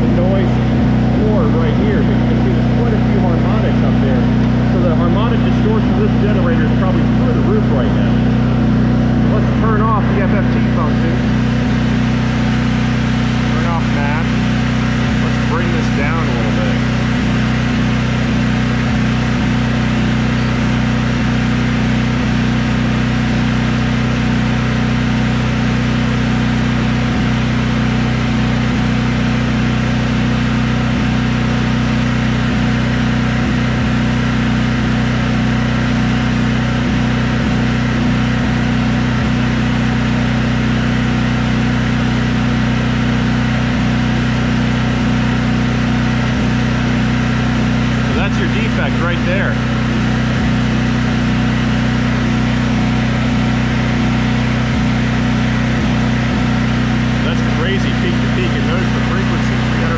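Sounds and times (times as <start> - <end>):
generator engine drone: 0.0 - 59.9.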